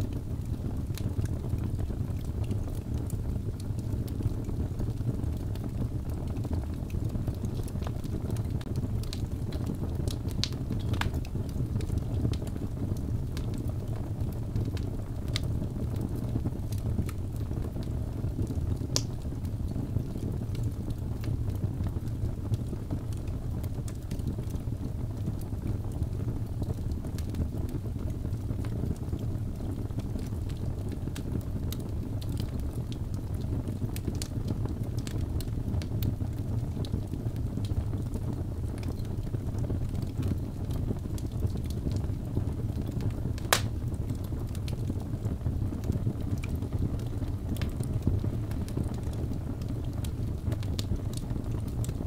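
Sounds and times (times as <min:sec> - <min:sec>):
burning logs crackling and popping: 0:00.0 - 0:52.0
fire flames rumbling: 0:00.0 - 0:52.0.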